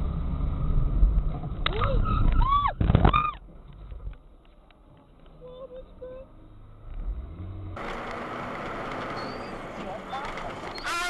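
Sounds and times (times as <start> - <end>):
vehicle engine hum: 0.0 - 10.9
road and wind noise: 0.0 - 11.0.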